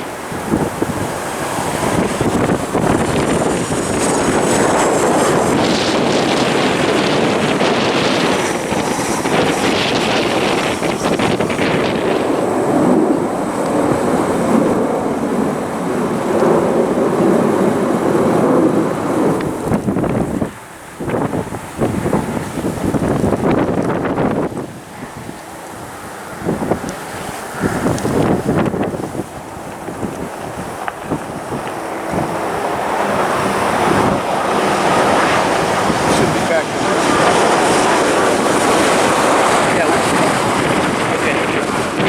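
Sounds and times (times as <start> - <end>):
jet engines roaring: 0.0 - 42.0
wind buffeting microphone: 0.0 - 42.0.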